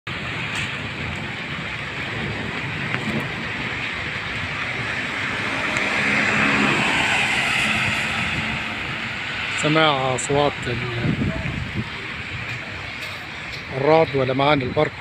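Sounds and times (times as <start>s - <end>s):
wind: 0.0s - 15.0s
traffic hissing on wet road: 0.1s - 15.0s
vehicle engine hum: 0.1s - 15.0s.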